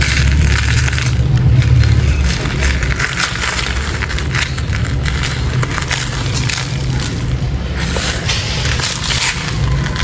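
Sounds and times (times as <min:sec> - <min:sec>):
sand crunching and crumbling: 0:00.0 - 0:10.0
steady low rumble: 0:00.0 - 0:10.0.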